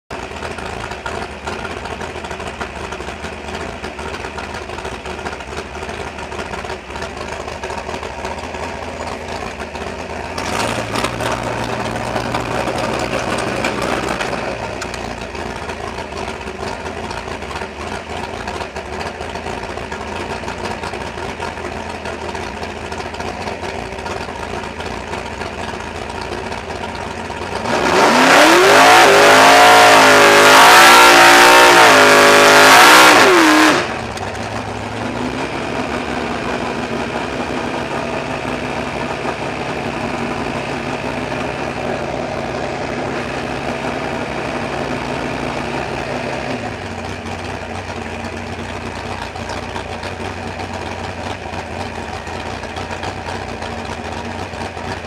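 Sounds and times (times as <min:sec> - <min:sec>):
drag car engine revving: 0:00.1 - 0:55.0.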